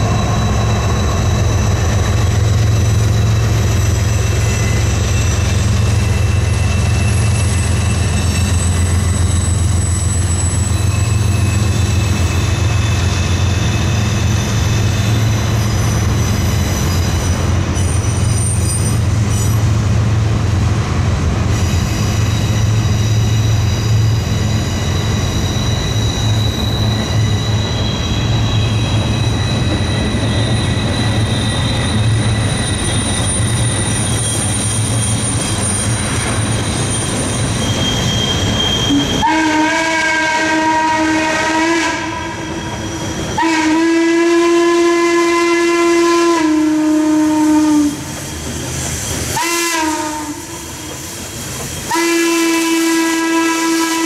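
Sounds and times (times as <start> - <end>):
wheels squealing: 0.0 - 19.8, 21.4 - 39.4, 42.3 - 43.4, 47.5 - 52.0
steam train rumbling: 0.0 - 54.0.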